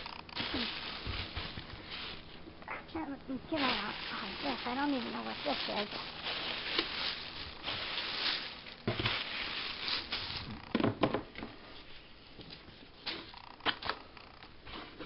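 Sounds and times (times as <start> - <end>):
packing material and cardboard rustling: 0.0 - 15.0.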